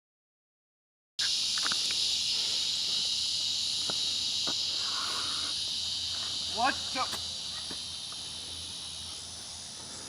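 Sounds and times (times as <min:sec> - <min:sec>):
insects droning: 0:01.2 - 0:10.0.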